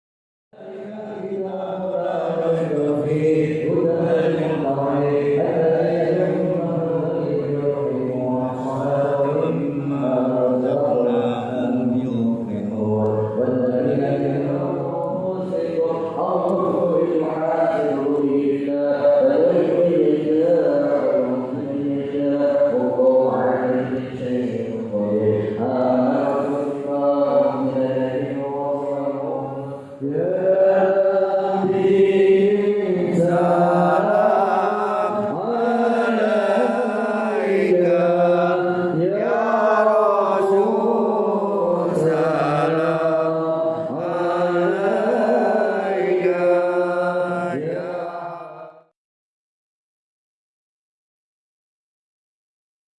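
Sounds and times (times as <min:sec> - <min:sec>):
devotional chanting voice: 0:00.6 - 0:49.0.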